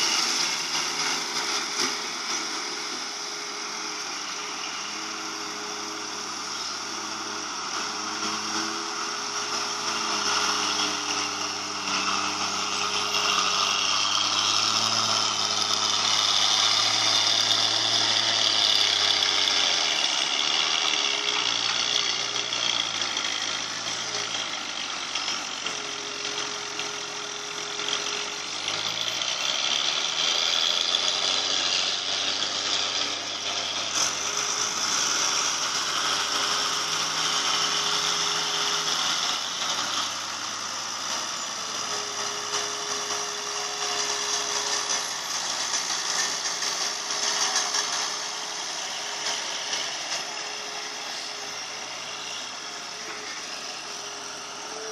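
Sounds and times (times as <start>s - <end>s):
excavator diesel engine working: 0.0s - 54.9s
harsh mechanical noise: 0.0s - 54.9s.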